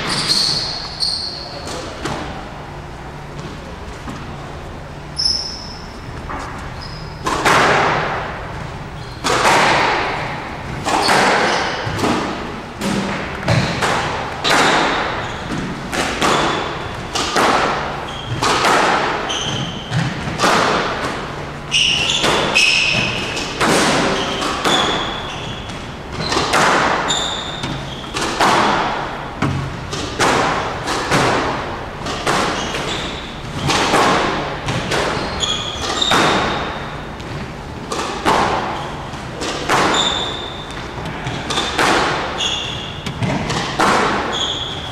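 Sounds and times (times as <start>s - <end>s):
shoes squeaking: 0.0s - 44.9s
squash ball impacts: 0.0s - 44.9s.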